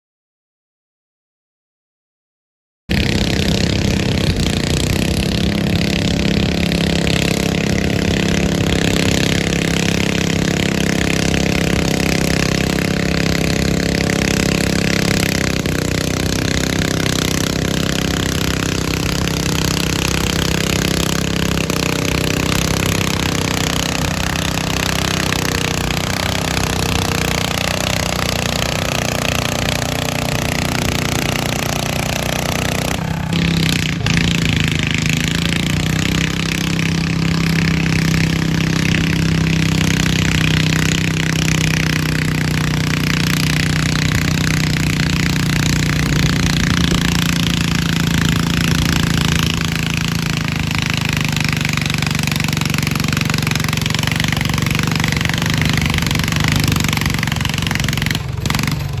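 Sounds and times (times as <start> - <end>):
tractor engine running under load: 2.9 - 59.0.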